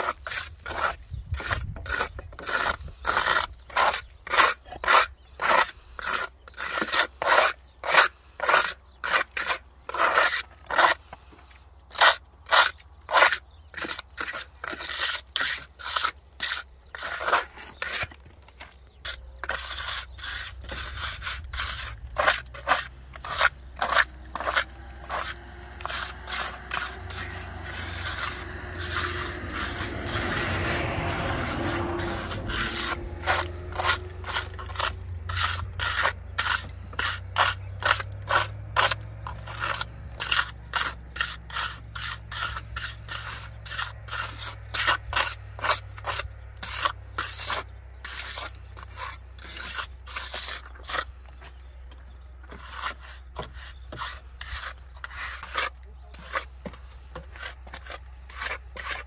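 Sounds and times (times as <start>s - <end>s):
plastering float scraping wall: 0.0s - 59.0s.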